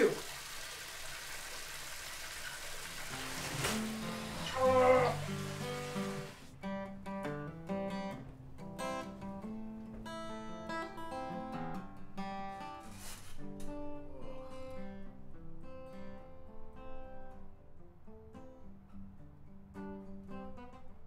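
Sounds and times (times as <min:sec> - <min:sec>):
acoustic guitar plucking: 0:03.1 - 0:21.0.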